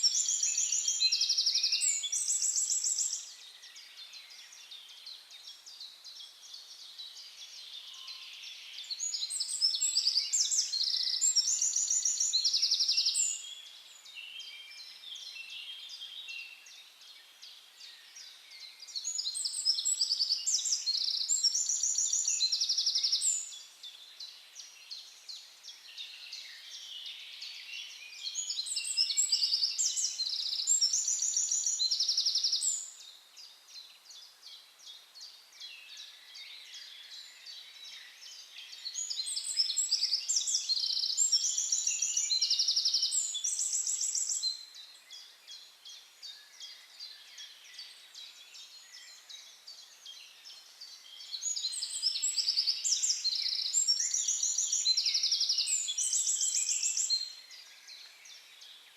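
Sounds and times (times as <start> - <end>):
songbird chirps and trills: 0.0 - 58.9.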